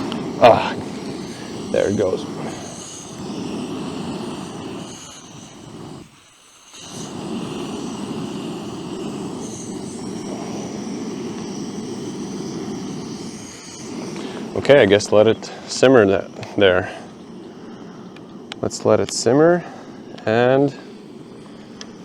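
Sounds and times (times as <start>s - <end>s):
gas stove flame rushing: 0.0s - 22.0s.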